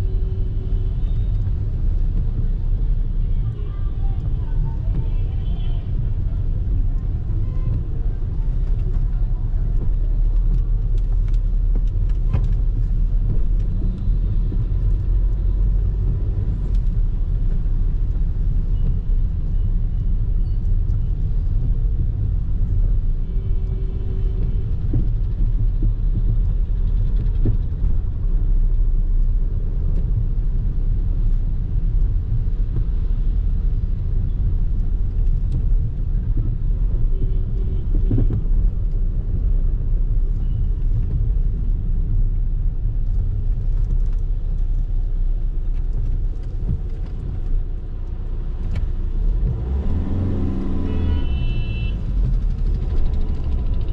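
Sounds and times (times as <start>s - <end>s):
vehicle driving rumble: 0.0s - 53.9s.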